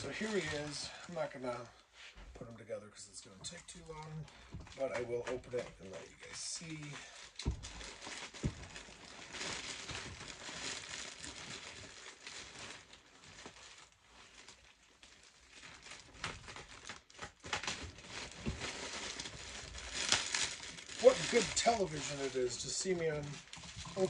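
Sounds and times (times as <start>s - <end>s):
plastic bag crinkling: 0.0s - 1.8s, 3.2s - 24.0s.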